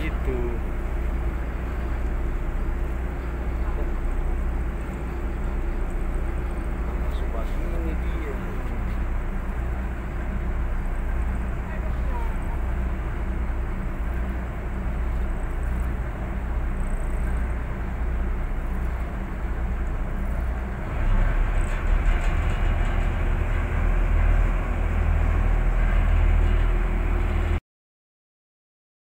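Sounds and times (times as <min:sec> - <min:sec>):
boat engine humming: 0:00.0 - 0:27.6
water noise: 0:00.0 - 0:27.6.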